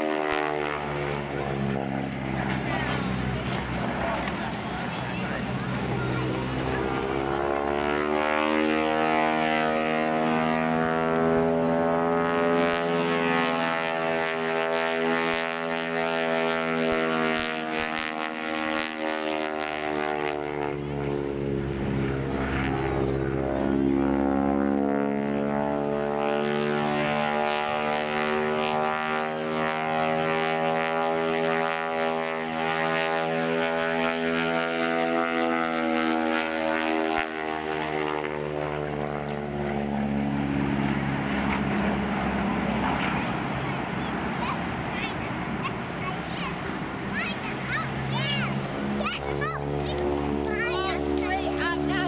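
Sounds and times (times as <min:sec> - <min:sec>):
propeller plane engine overhead: 0:00.0 - 0:52.0.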